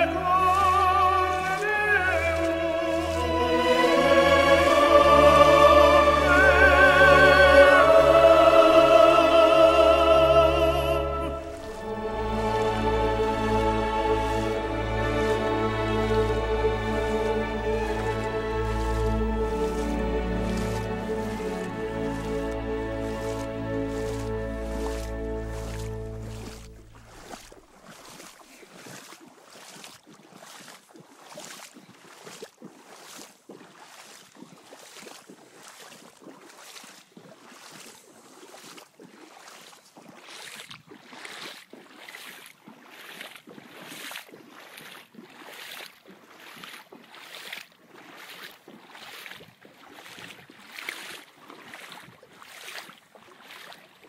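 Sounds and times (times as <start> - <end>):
footsteps on waterlogged ground: 0.0 - 54.0.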